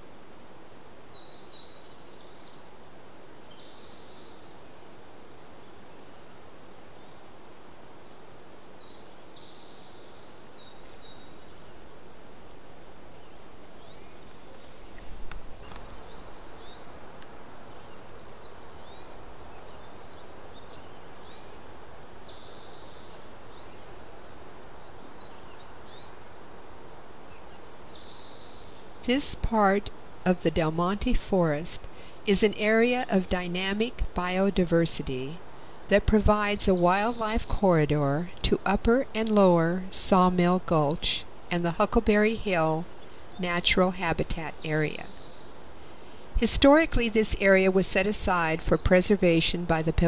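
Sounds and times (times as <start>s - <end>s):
outdoor background hiss: 0.0s - 50.0s
small birds chirping: 0.0s - 50.0s.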